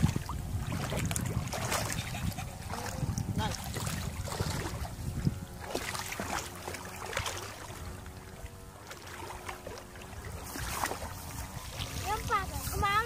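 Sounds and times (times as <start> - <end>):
muddy water splashing and sloshing: 0.0 - 13.0.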